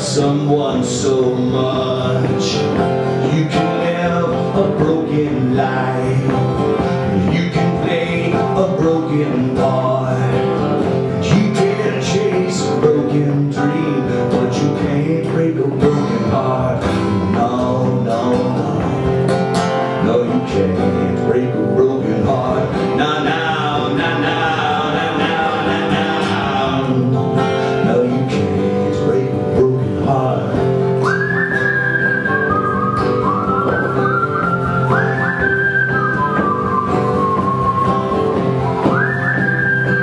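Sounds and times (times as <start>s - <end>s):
live acoustic guitar music: 0.0s - 40.0s.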